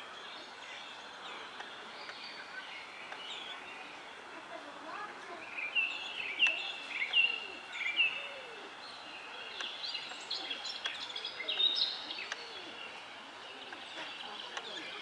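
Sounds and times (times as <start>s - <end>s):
faint steady hiss: 0.0s - 15.0s
small birds chirping: 0.0s - 15.0s.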